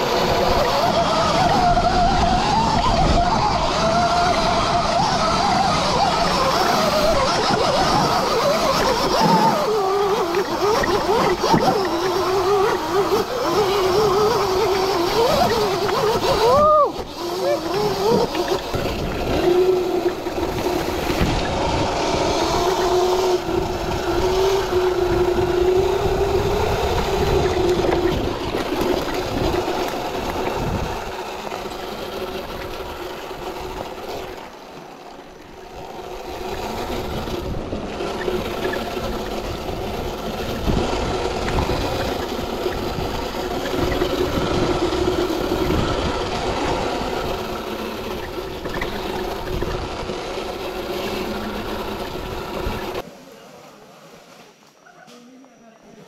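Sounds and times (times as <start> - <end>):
tyre noise: 0.0 - 53.0
electric motor whine: 0.0 - 53.1.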